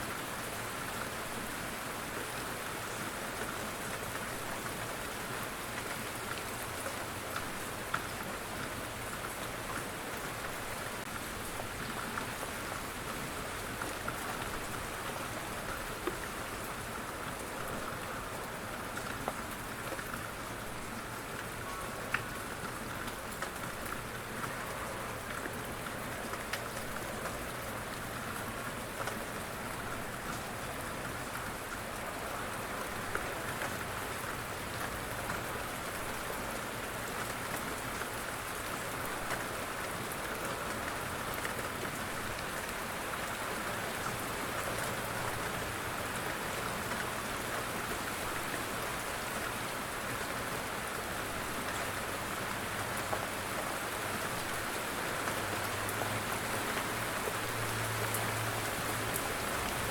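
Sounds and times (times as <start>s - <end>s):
raindrops ticking on surfaces: 0.1s - 59.9s.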